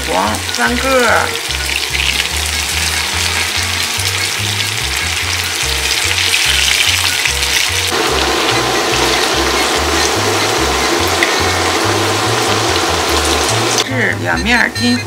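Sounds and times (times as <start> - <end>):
tofu sizzling in oil: 0.0 - 13.8
background music with bass line: 0.0 - 15.0.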